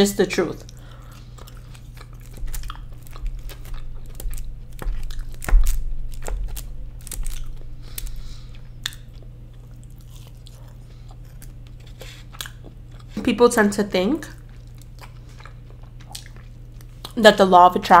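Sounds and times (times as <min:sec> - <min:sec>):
chewing fries: 0:00.4 - 0:17.4.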